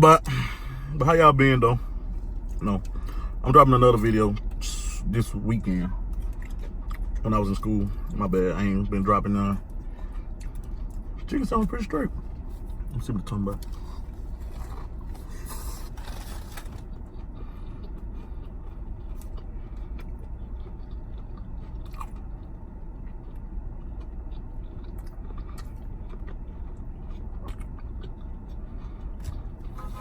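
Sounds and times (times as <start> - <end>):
car engine idling: 0.0 - 22.7, 28.3 - 30.0
person chewing crispy food: 2.1 - 30.0.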